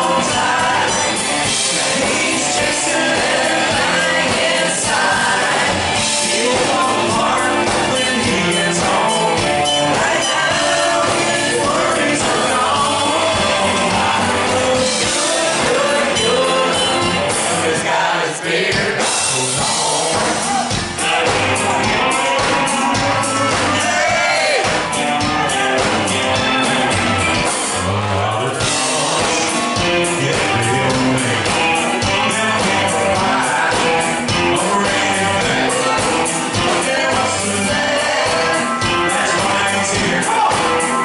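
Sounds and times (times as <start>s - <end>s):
bass: 0.0s - 41.0s
drums: 0.0s - 41.0s
electric guitars: 0.0s - 41.0s
man singing lead vocal: 0.0s - 41.0s.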